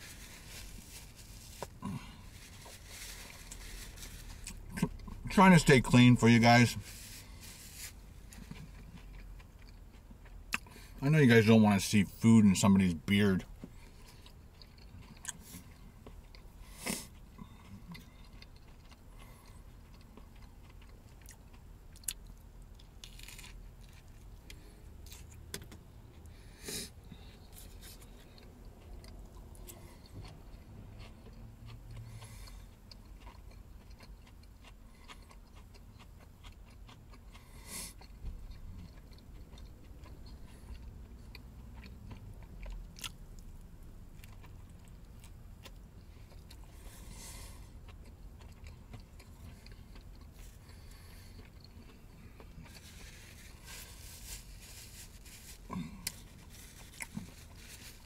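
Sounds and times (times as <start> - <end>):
man chewing a burger: 0.0 - 58.0.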